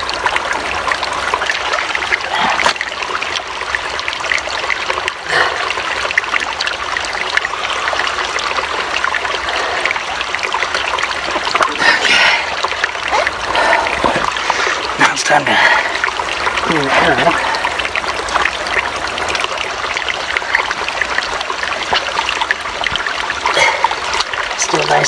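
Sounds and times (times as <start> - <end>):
small stream trickling: 0.0 - 25.0.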